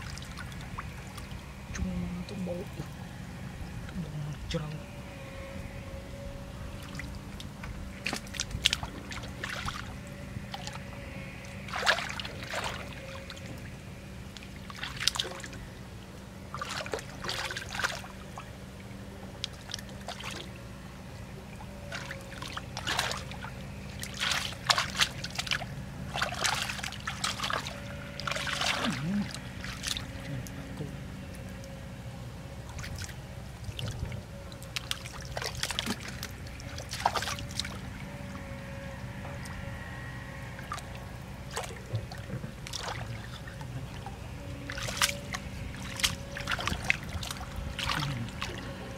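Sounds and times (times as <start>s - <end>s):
faint steady hum: 0.0s - 48.9s
muddy water splashing: 0.0s - 48.9s.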